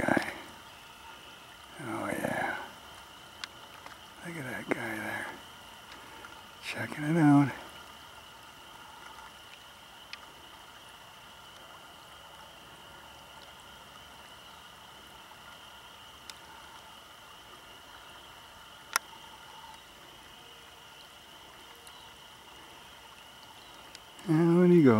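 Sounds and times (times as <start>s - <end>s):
water trickling through sticks: 1.2s - 24.9s.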